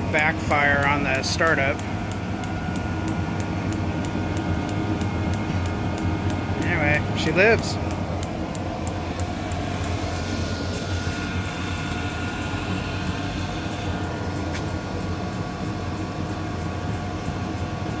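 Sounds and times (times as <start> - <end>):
heater humming with blower rush: 0.0 - 18.0.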